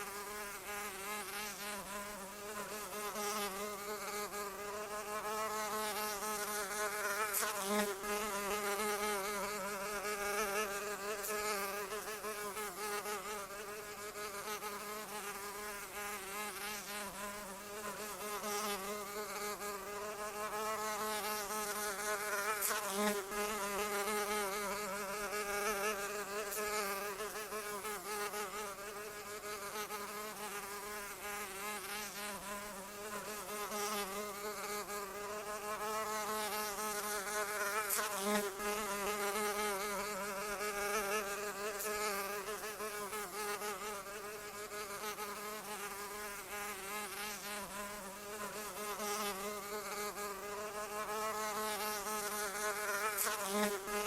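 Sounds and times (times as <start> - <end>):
insect wings buzzing: 0.0 - 54.0.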